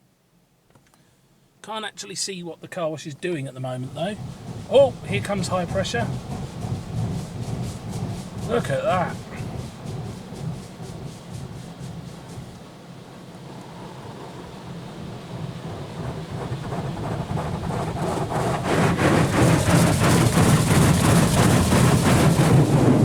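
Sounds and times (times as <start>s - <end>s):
water jets drumming on car: 1.8s - 23.0s.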